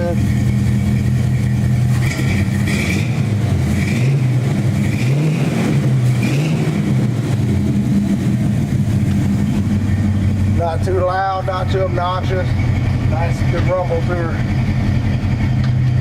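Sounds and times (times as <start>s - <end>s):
pickup engine rumbling and revving: 0.0s - 16.0s.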